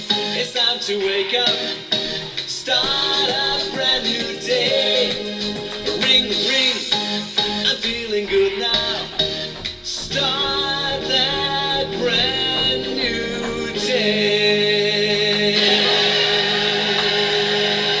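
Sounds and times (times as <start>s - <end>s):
upbeat children's song with singing: 0.0s - 18.0s.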